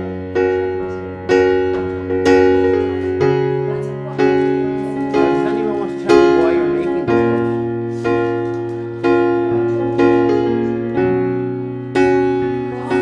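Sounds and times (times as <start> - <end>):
piano-like chords ringing: 0.0 - 13.0.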